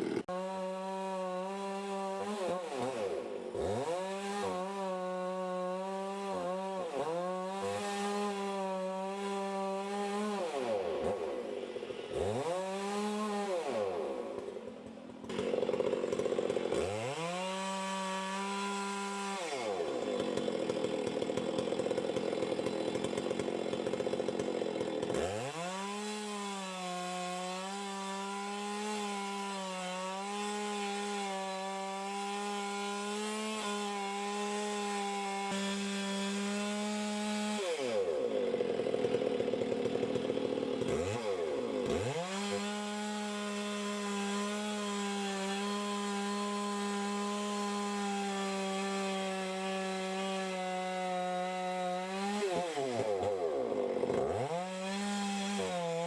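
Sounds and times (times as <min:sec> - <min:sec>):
chainsaw cutting at high revs: 0:00.0 - 0:56.0.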